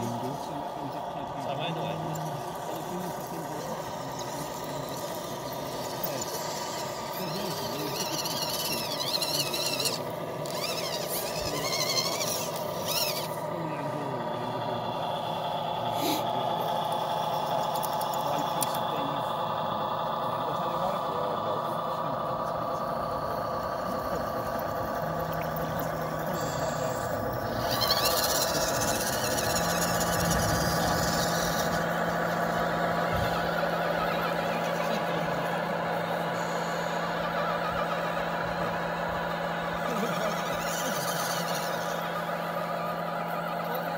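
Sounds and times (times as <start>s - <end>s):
electric motor whining: 0.0s - 43.9s.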